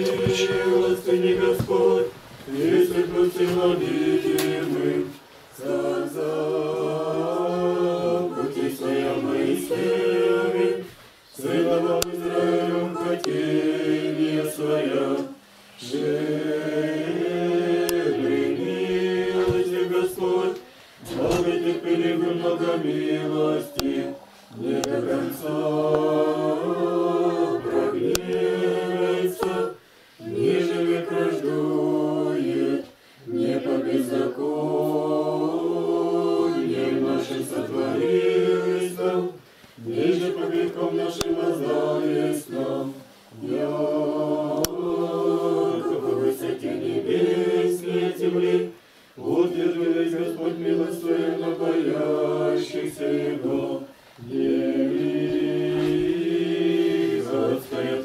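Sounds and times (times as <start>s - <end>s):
group singing a prayer chant: 0.0s - 58.0s.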